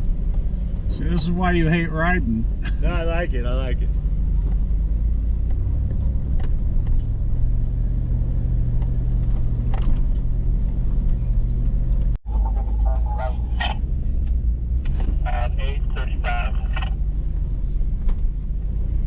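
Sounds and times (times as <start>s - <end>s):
engine running low: 0.0s - 19.0s.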